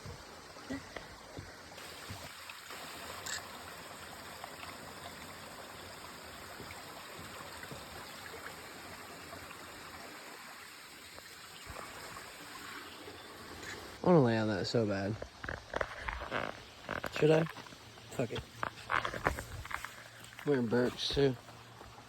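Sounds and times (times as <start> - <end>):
forest stream rushing: 0.0 - 14.3, 16.2 - 22.0.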